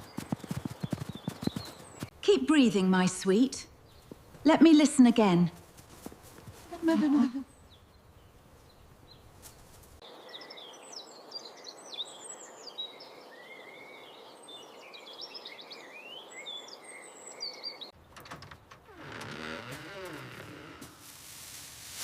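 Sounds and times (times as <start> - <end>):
steady outdoor hiss: 2.1 - 19.2, 20.1 - 22.0.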